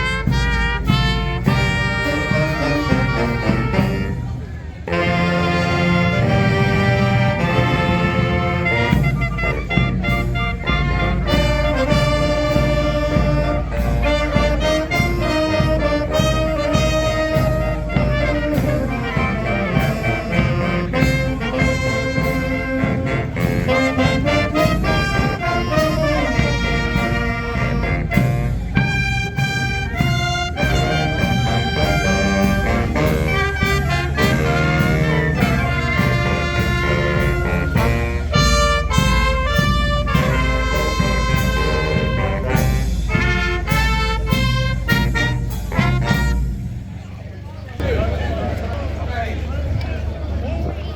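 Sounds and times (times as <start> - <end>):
steady drum beat: 0.0 - 47.0
brass instruments playing melody: 0.0 - 50.4.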